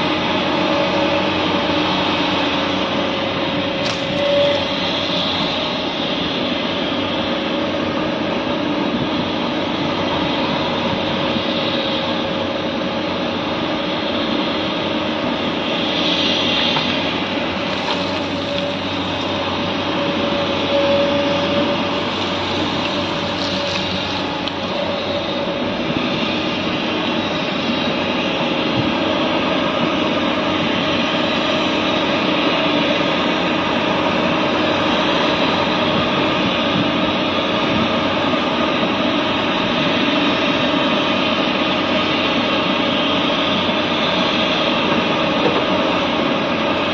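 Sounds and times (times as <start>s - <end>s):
excavator diesel engine whining: 0.0s - 46.9s.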